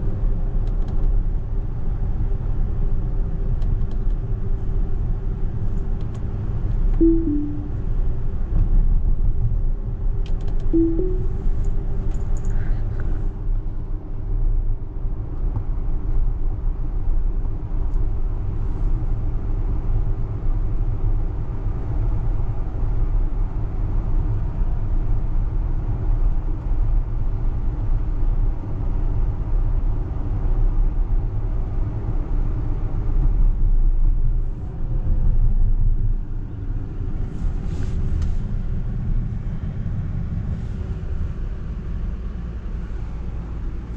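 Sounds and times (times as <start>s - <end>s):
road and tyre rumble in car: 0.0s - 7.0s, 12.0s - 43.9s.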